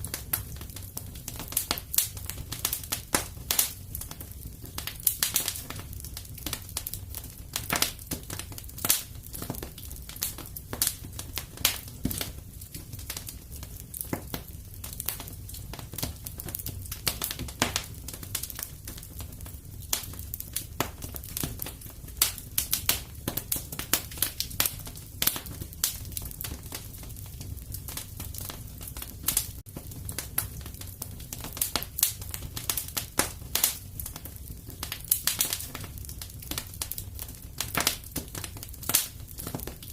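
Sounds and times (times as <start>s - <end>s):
fire pops and snaps: 0.0s - 39.9s
low rumble of flames: 0.0s - 39.9s.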